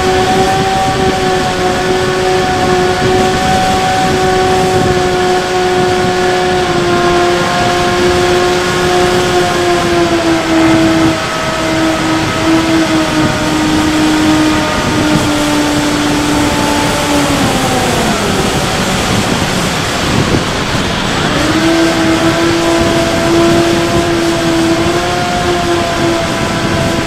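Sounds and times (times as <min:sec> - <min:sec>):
electric motor and propeller whine: 0:00.0 - 0:27.0
wind noise on microphone: 0:00.0 - 0:27.0.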